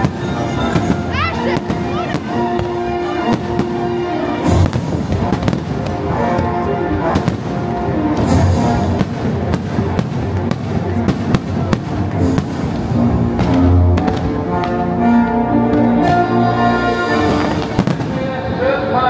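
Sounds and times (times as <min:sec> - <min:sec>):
heavy firework booms: 0:00.0 - 0:14.4, 0:17.3 - 0:18.6
fireworks cracking and banging: 0:00.0 - 0:14.9, 0:17.2 - 0:19.0
music soundtrack: 0:00.0 - 0:19.0.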